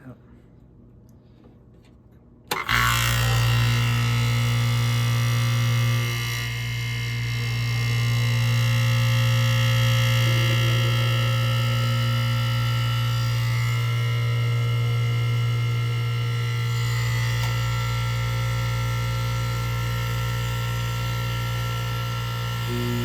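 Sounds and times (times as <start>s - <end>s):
air conditioner electrical hum: 0.0s - 23.0s.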